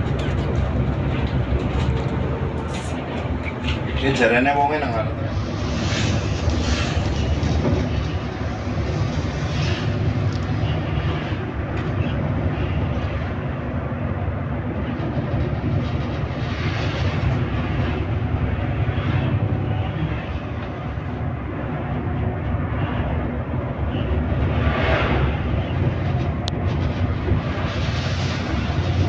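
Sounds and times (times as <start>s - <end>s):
bus engine and road noise: 0.0s - 29.0s.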